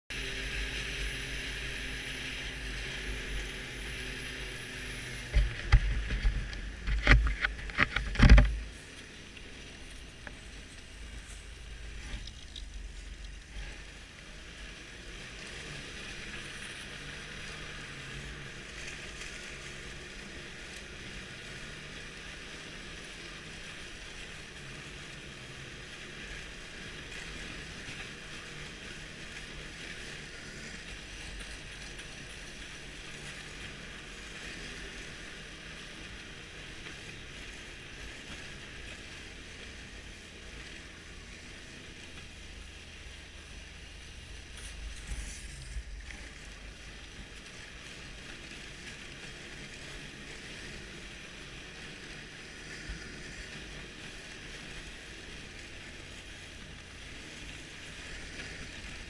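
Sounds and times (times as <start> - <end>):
snowmobile engine running: 0.1 - 59.0.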